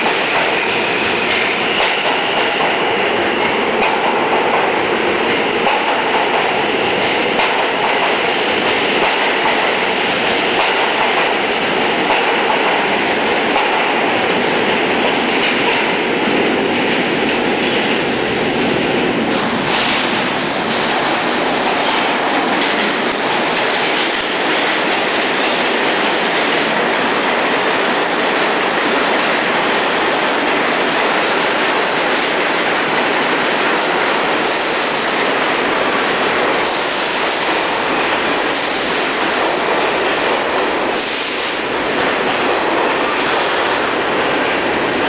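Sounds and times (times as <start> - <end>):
clickety-clack over rail joints: 0.0 - 45.0
subway train wheels rumbling: 0.0 - 45.0.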